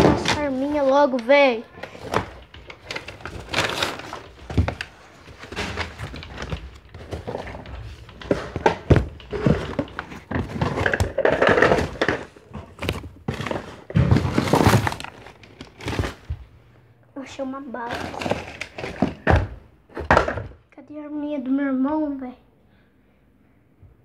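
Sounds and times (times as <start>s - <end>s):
objects thudding and clattering: 0.0s - 16.6s, 17.8s - 20.7s.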